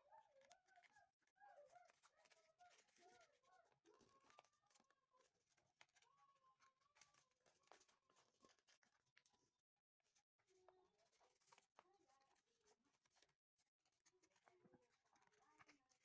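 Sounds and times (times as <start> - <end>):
paper crinkling and folding: 0.0 - 16.0.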